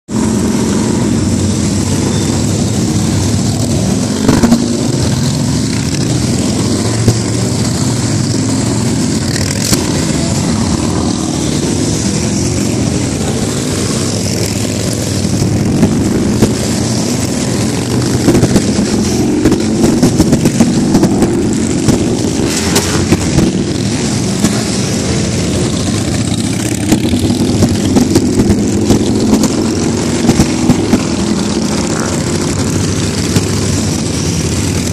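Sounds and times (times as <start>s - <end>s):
motorcycles riding past: 0.1s - 34.9s.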